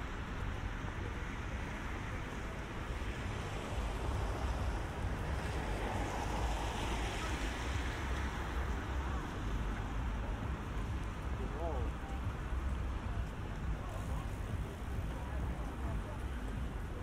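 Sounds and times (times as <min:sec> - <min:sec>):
low traffic rumble: 0:00.0 - 0:17.0
tyres hissing on wet road: 0:00.0 - 0:17.0.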